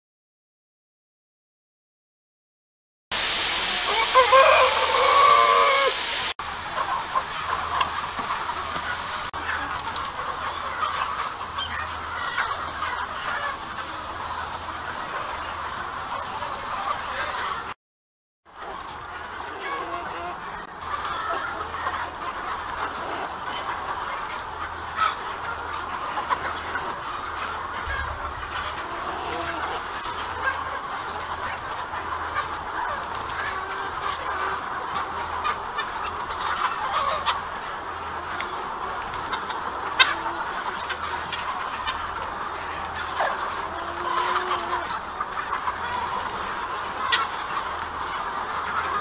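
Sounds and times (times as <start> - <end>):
chickens clucking: 3.2 - 17.8, 18.6 - 49.0.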